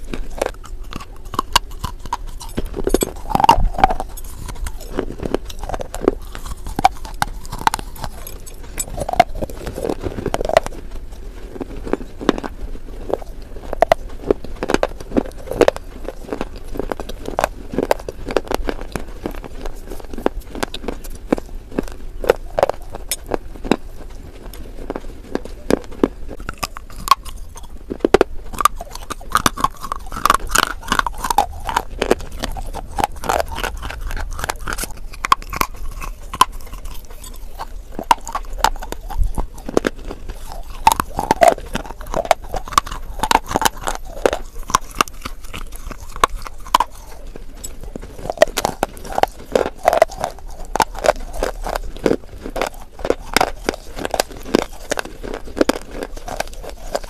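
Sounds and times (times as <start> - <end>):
crunching clay bars: 0.0 - 57.0
wet mouth sounds: 0.0 - 57.0.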